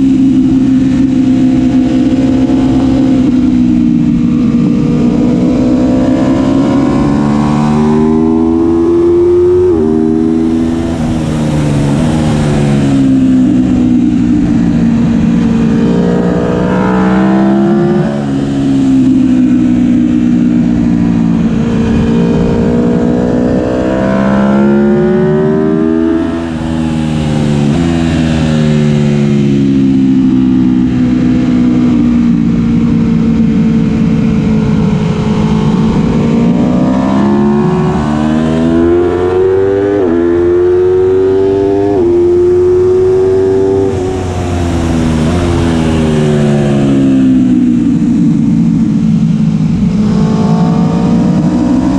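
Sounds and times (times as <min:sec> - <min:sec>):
motorcycle engine revving hard: 0:00.0 - 0:51.9.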